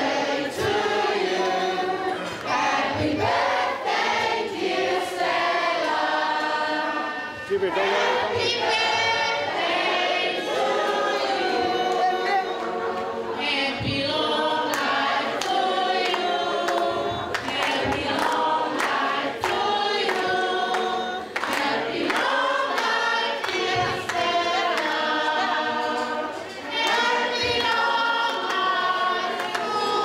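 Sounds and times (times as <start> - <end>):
crowd singing in chorus: 0.0 - 30.0.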